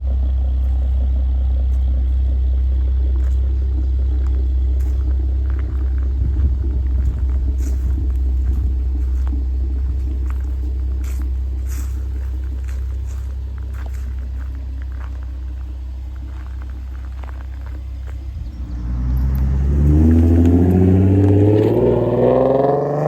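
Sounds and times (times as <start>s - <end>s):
car exhaust deep rumble: 0.0s - 23.0s.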